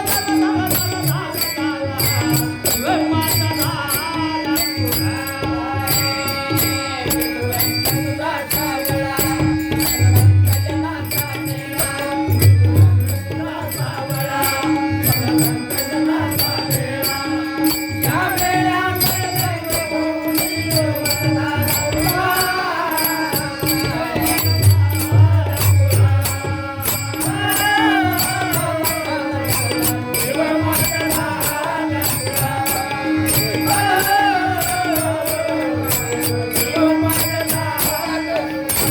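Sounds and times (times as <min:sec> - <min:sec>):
jingling rattling percussion: 0:00.0 - 0:38.9
man singing: 0:00.0 - 0:38.9.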